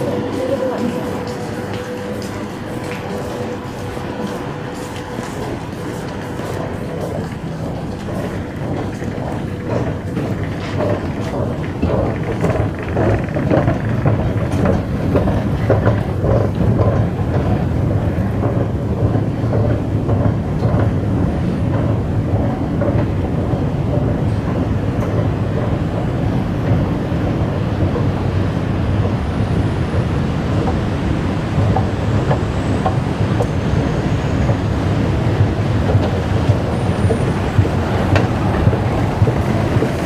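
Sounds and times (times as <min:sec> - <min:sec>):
low station rumble: 0:00.0 - 0:40.0
footstep taps: 0:00.1 - 0:25.7, 0:31.6 - 0:40.0.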